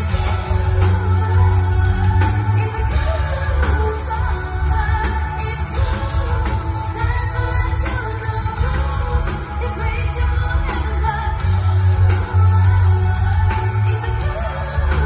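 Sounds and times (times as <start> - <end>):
pop-rock band playing: 0.0 - 15.0
woman singing: 0.0 - 15.0.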